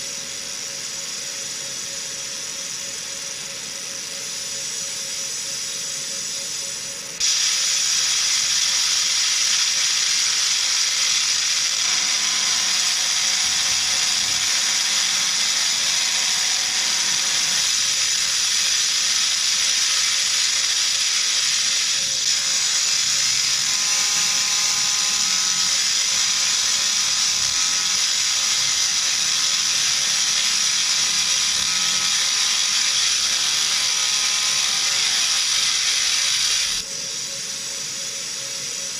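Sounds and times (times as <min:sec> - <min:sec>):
laser engraving hiss-buzz: 0:00.0 - 0:38.9
quiet steady machine noise: 0:00.0 - 0:38.9.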